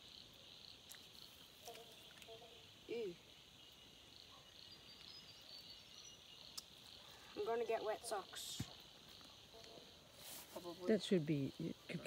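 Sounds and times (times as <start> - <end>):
frogs trilling: 0.0 - 10.0.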